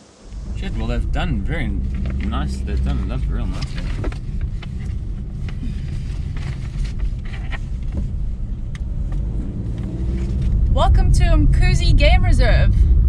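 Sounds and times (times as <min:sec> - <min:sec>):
car driving slowly: 0:00.0 - 0:13.0.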